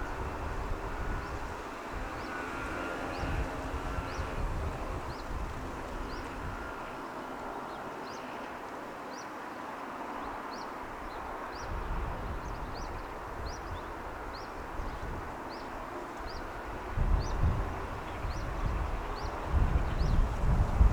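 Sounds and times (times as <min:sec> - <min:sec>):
distant traffic hum: 0:00.0 - 0:20.9.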